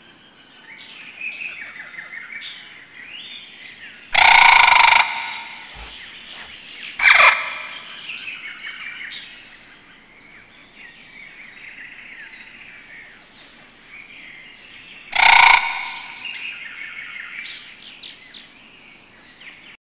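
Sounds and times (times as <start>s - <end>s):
bird-like chirps and calls: 0.5s - 18.6s.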